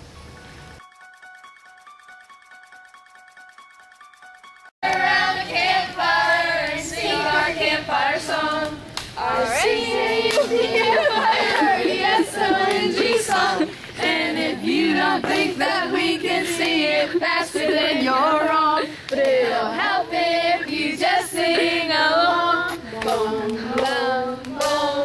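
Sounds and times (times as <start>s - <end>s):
group of voices singing: 4.8s - 25.0s.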